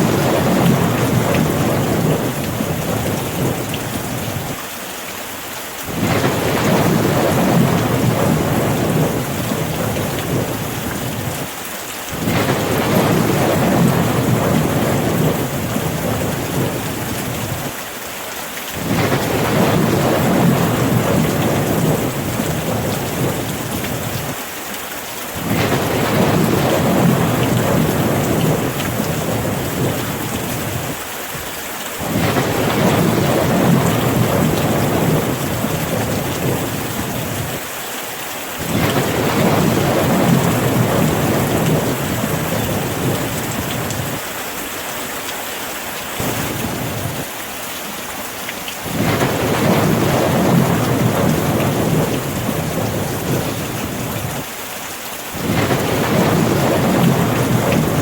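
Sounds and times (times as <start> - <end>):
low thunder rolling: 0.0 - 4.6, 5.9 - 11.5, 12.2 - 17.7, 18.8 - 24.4, 25.4 - 31.0, 32.0 - 37.6, 38.6 - 44.2, 46.2 - 47.3, 48.8 - 54.5, 55.4 - 58.0
steady rain: 0.0 - 58.0.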